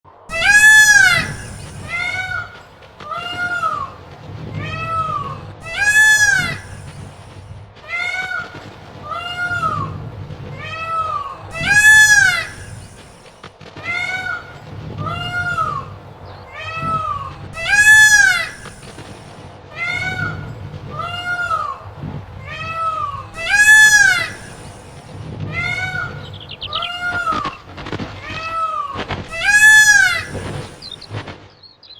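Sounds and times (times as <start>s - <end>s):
peacock calling: 0.3s - 4.0s, 4.6s - 10.0s, 10.6s - 31.2s.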